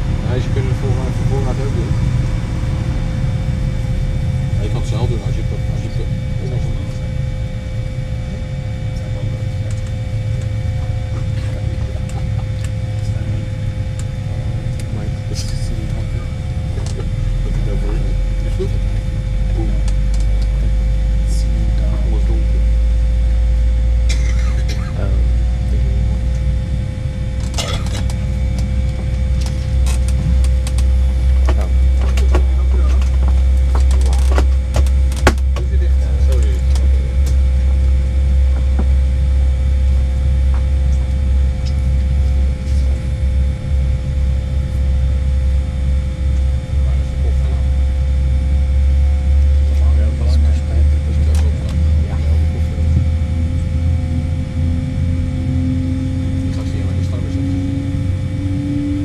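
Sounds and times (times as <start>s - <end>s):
low cabin rumble: 0.0s - 59.0s
whining tones: 0.0s - 59.0s.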